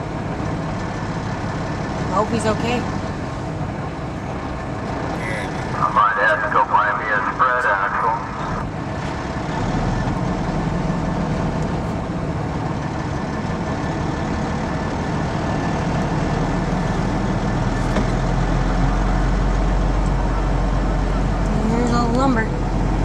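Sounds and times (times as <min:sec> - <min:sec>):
road noise: 0:00.0 - 0:23.0
truck diesel engine rumble: 0:00.0 - 0:23.0.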